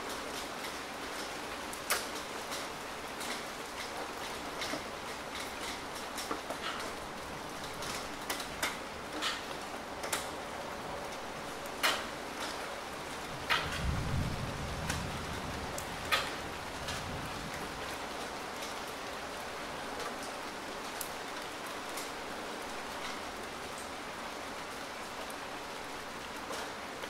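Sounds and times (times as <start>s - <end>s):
rain drop splats: 0.0s - 27.0s
steady rain hiss: 0.0s - 27.0s.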